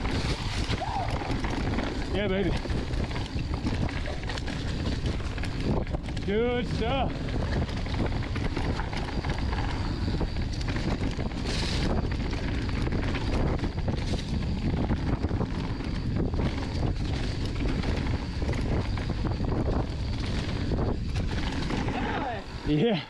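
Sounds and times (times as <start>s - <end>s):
bike clattering over bumps: 0.0s - 23.0s
tyre rumble: 0.0s - 23.0s
wind buffeting microphone: 0.0s - 23.0s.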